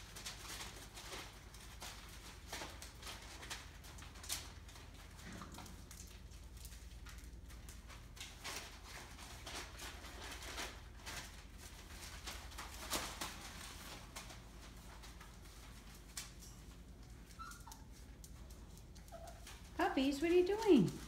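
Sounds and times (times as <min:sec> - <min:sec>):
puppies scuffling clicks and scratches: 0:00.0 - 0:21.0.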